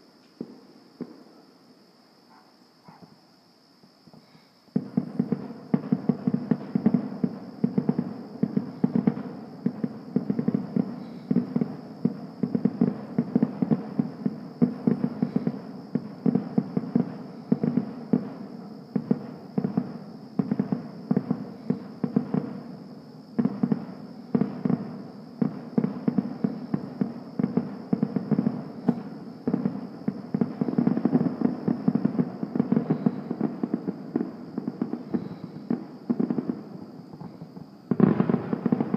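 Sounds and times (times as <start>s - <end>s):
fireworks exploding: 0.4s - 1.4s, 4.7s - 38.9s.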